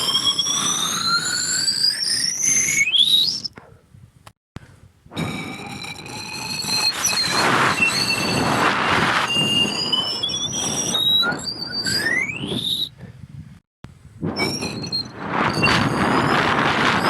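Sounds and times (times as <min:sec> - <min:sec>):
high-pitched squealing: 0:00.0 - 0:03.6, 0:05.1 - 0:13.0, 0:14.2 - 0:17.0.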